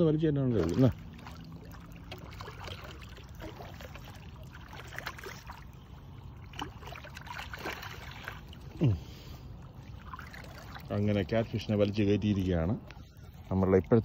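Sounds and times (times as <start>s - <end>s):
water splashing and sloshing: 0.0s - 14.0s
net pushed through water: 0.4s - 8.9s, 9.6s - 12.6s.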